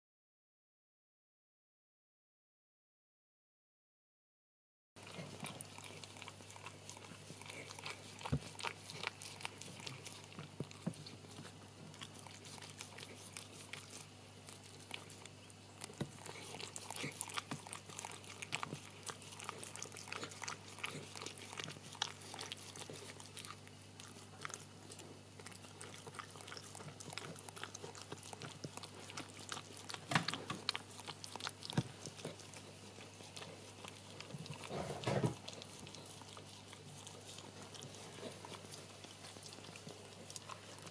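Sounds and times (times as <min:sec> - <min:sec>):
dog licking puppy: 0:05.0 - 0:40.9.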